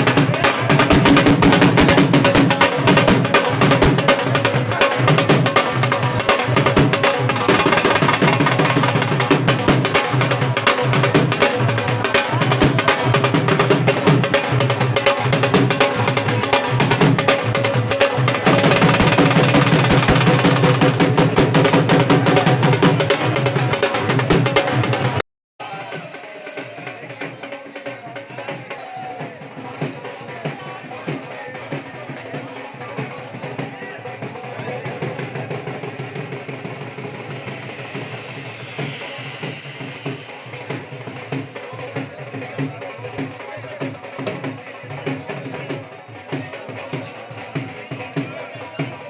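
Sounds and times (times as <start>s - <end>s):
loud fast drumming: 0.0s - 49.0s.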